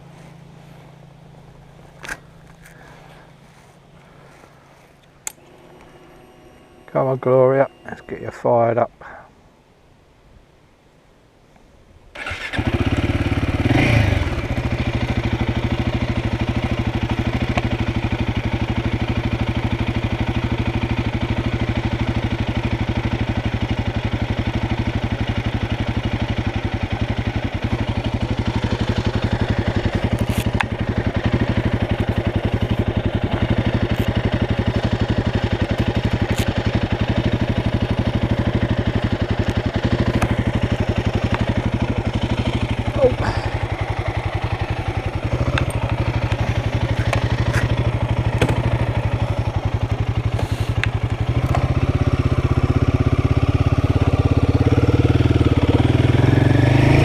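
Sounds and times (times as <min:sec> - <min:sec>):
motorcycle engine revving and idling: 0:00.0 - 0:08.5, 0:12.2 - 0:57.0.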